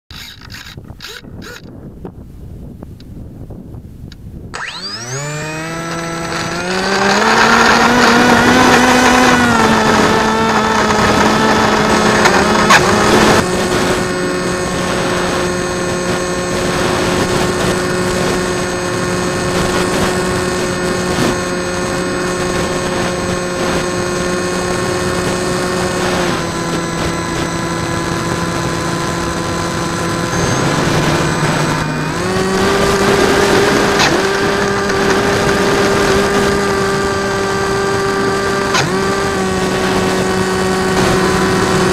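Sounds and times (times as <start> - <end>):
ultralight aircraft engine and propeller: 0.1 - 41.9.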